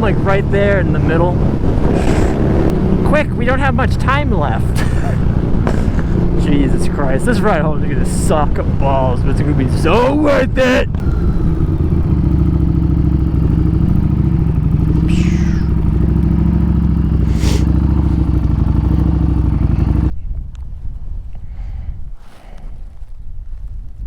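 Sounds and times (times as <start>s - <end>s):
motorcycle engine running: 0.0s - 20.1s.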